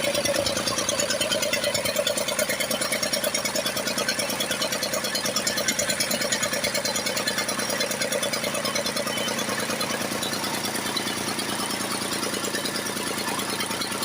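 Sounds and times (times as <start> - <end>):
stationary diesel engine running: 0.0 - 14.0.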